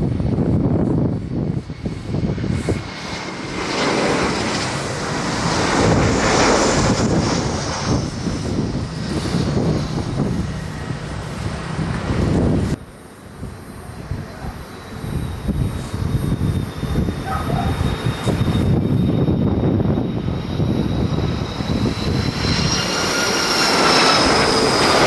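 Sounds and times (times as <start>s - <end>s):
jet engines roaring: 0.0s - 25.0s
thin falling whine: 0.0s - 25.0s.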